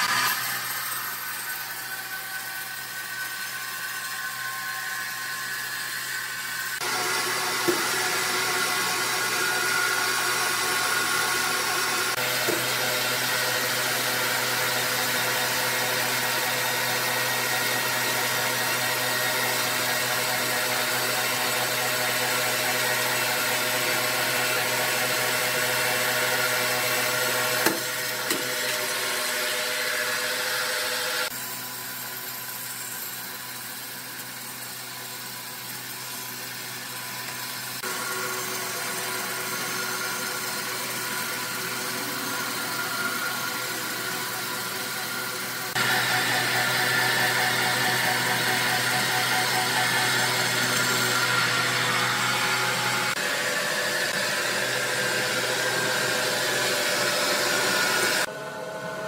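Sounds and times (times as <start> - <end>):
sawmill machinery humming: 0.0 - 59.0.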